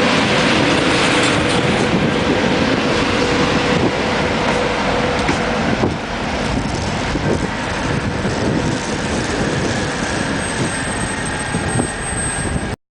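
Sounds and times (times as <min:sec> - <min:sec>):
train rumbling: 0:00.0 - 0:12.8
wind buffeting microphone: 0:00.0 - 0:12.8.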